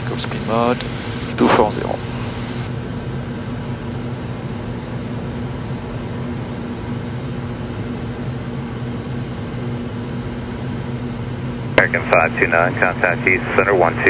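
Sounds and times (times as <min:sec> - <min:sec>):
jet cabin air and engine noise: 0:00.0 - 0:14.0
steady low hum: 0:00.0 - 0:14.0.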